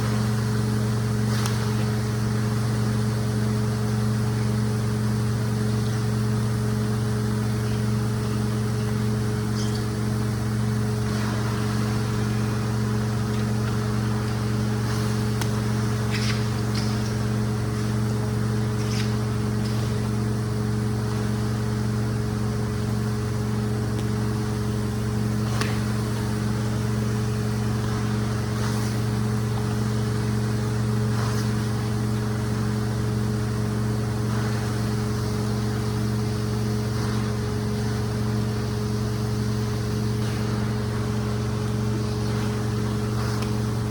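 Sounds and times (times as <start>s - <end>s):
rug cleaning machine droning: 0.0s - 43.9s.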